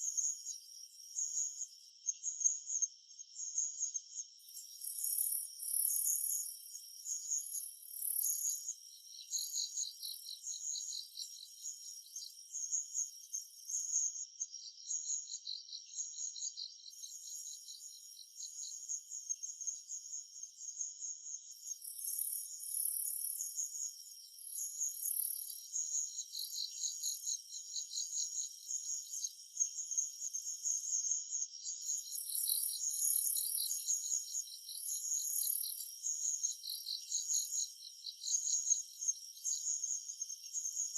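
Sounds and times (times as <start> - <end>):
insects trilling: 3.9 - 40.9.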